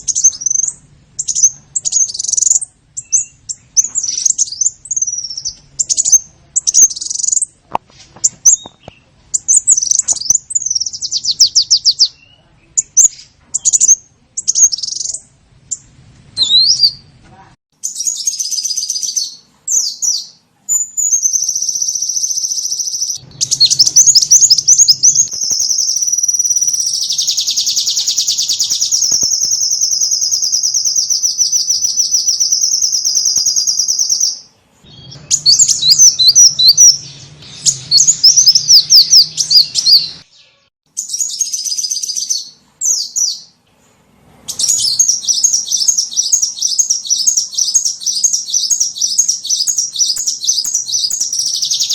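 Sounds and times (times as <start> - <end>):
songbird high-pitched chirps: 0.0 - 7.6, 8.2 - 17.2, 17.8 - 43.6, 44.5 - 51.9.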